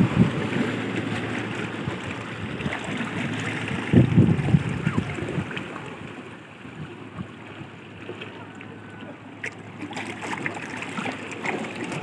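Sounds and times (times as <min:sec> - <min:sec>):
seawater washing over rocks: 0:00.0 - 0:12.0.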